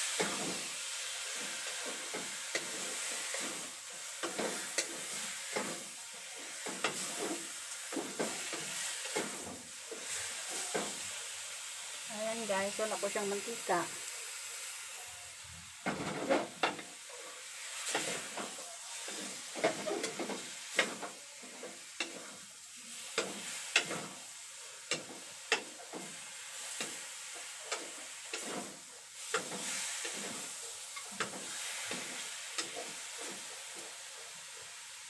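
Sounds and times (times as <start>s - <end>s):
pork sizzling faintly: 0.0s - 35.0s.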